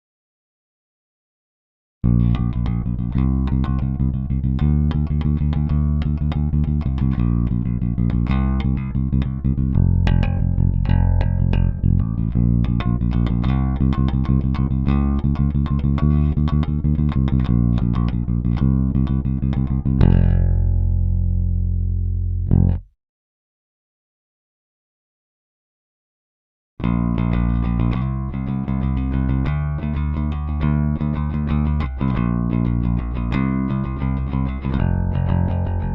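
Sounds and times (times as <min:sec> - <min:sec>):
electric bass plucked notes: 0:02.0 - 0:23.0, 0:26.8 - 0:35.9.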